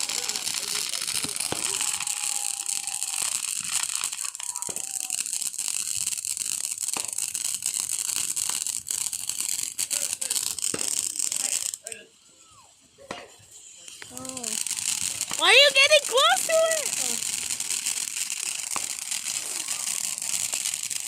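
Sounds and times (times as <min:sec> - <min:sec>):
fireworks crackling and hissing: 0:00.0 - 0:21.0.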